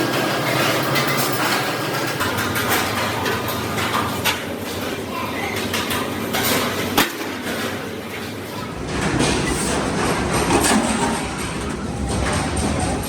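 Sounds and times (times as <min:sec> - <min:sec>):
workshop noise: 0:00.0 - 0:13.0.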